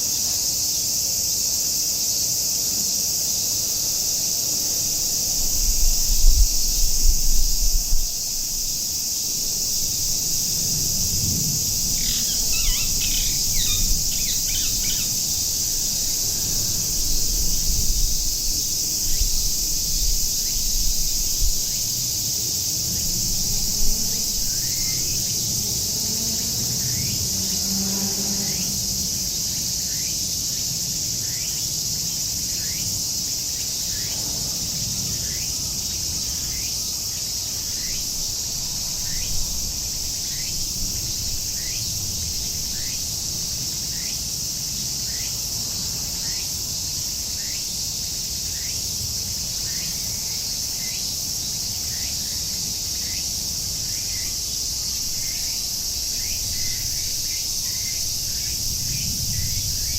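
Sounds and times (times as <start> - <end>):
cicadas singing: 0.0 - 59.9.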